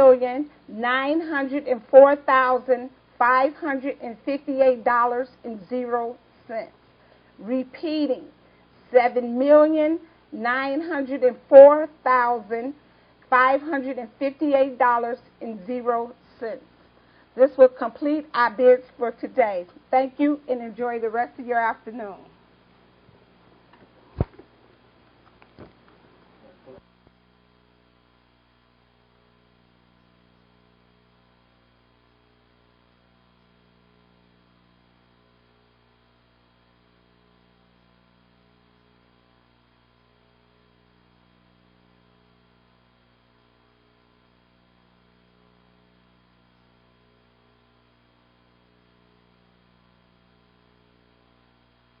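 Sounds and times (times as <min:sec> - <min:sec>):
faint mains hum: 0:00.0 - 0:52.0.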